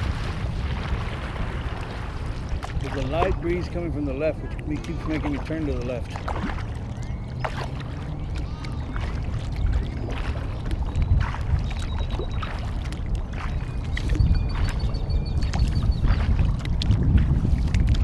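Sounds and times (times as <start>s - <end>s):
paddle splashing and dripping: 0.0s - 18.0s
wind rumble on microphone: 0.0s - 18.0s.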